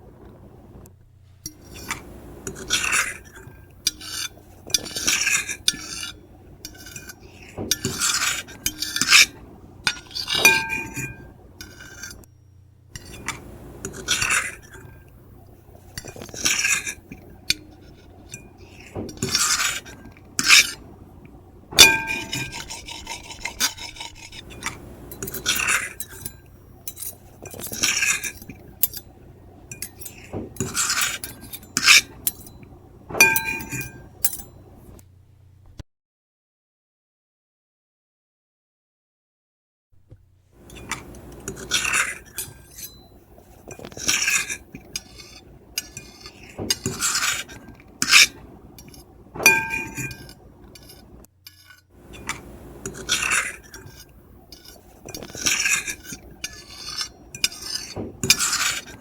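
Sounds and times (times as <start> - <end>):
cutlery scraping on a plate: 1.4 - 12.3, 13.0 - 15.1, 15.7 - 20.9, 21.8 - 35.0, 40.6 - 59.0.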